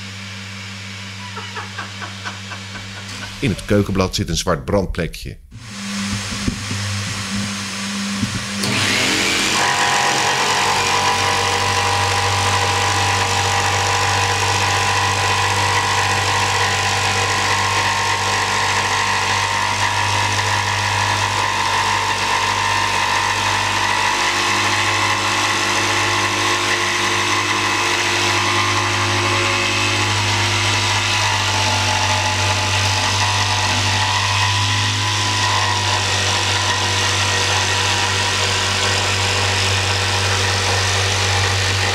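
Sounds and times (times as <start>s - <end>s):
jigsaw cutting worktop: 0.0s - 3.8s, 5.6s - 41.9s.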